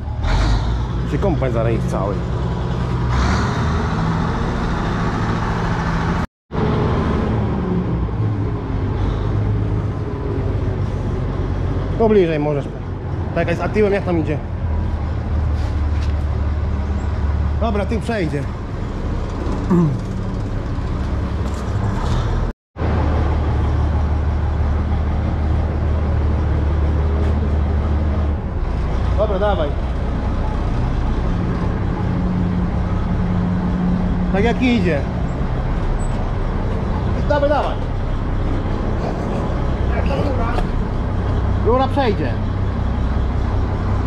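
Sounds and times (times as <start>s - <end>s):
combine harvester diesel engine: 0.0s - 44.0s.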